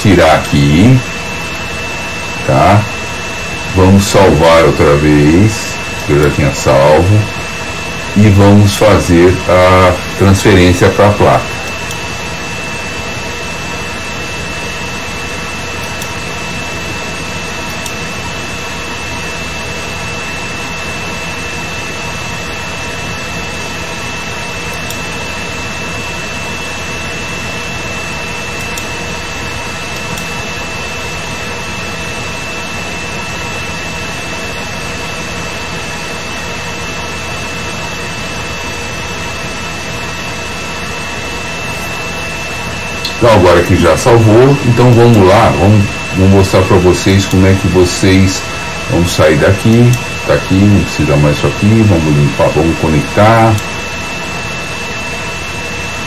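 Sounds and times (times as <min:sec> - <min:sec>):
high-pitched whine: 0:00.0 - 0:56.0.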